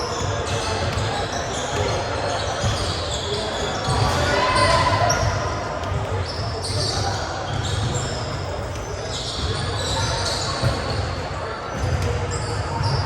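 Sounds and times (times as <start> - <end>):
spectator chatter: 0.0 - 13.0.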